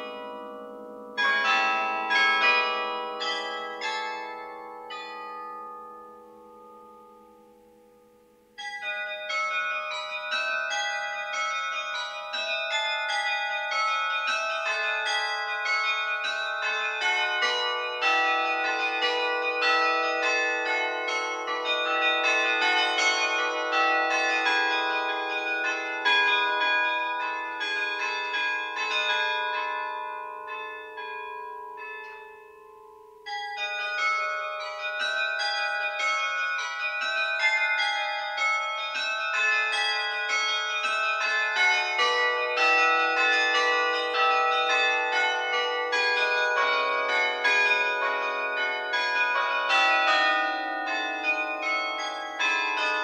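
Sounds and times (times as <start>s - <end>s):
carillon bells ringing: 0.0s - 7.2s, 8.6s - 53.0s.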